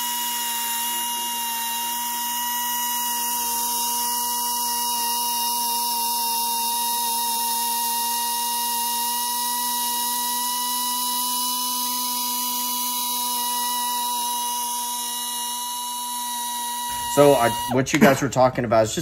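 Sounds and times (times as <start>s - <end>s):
rotary tool whining: 0.0s - 17.9s.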